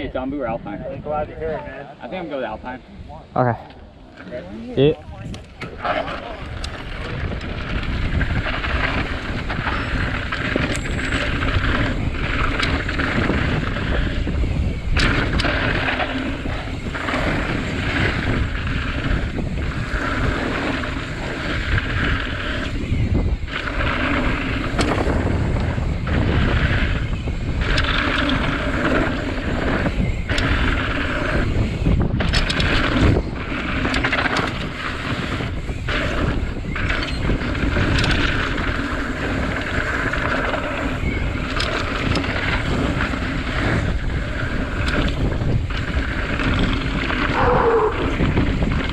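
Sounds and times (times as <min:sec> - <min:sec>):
bike tyre noise: 0:00.0 - 0:48.9
wind buffeting microphone: 0:00.0 - 0:48.9.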